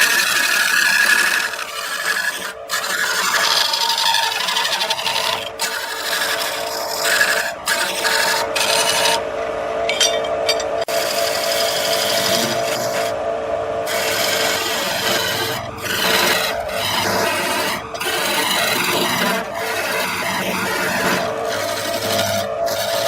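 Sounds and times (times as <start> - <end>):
lathe tool rasping against wood: 0.0 - 9.3, 10.8 - 13.2, 13.8 - 23.0
steady hum: 0.0 - 23.0.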